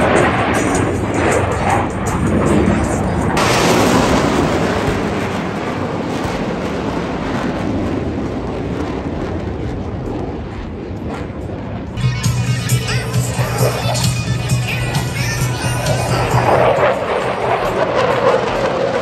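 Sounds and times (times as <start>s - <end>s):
jet passing low overhead: 0.0s - 19.0s.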